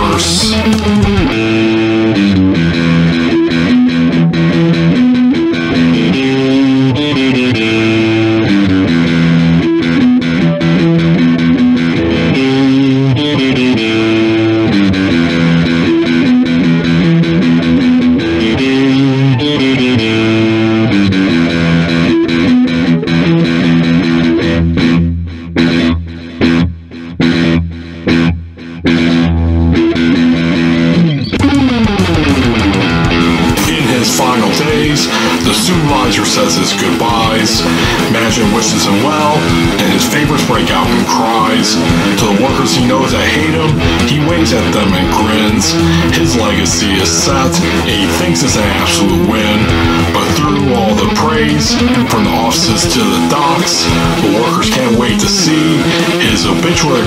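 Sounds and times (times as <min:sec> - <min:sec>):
bass guitar: 0:00.0 - 0:57.0
distorted electric guitar: 0:00.0 - 0:57.0.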